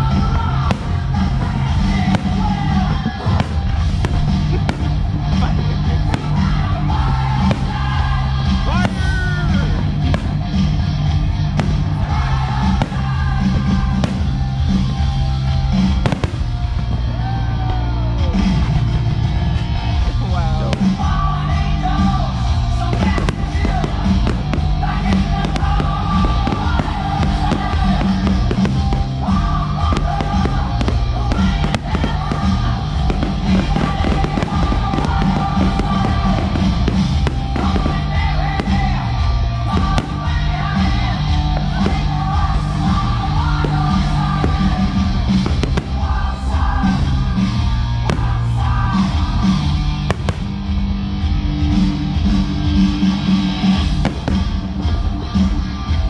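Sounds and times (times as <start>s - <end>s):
fireworks bursting: 0.0s - 17.2s, 18.4s - 55.6s
music with stepping bass line: 0.0s - 17.2s, 18.3s - 56.0s.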